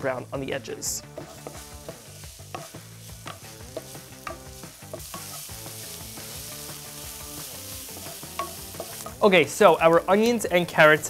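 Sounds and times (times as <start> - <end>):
vegetables sizzling in oil: 0.0 - 11.0
utensil tapping pan: 1.0 - 11.0.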